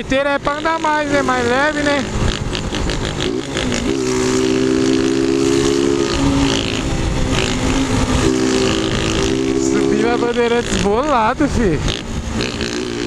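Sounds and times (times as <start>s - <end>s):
loud motorcycle engines revving: 0.0s - 13.0s.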